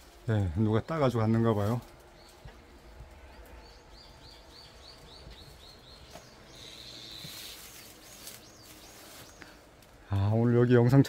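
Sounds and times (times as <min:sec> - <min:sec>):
faint rain hiss: 0:00.0 - 0:11.0
songbird chirping and trilling: 0:00.0 - 0:11.0.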